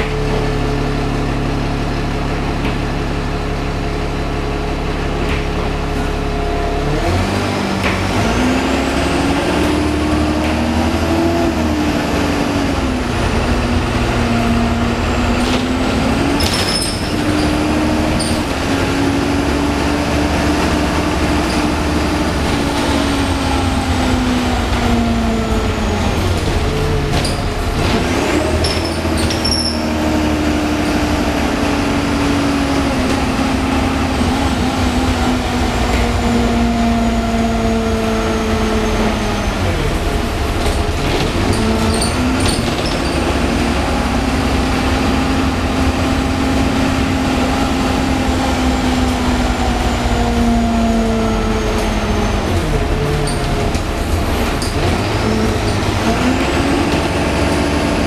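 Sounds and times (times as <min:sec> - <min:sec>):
bus diesel engine rumble: 0:00.0 - 0:58.0.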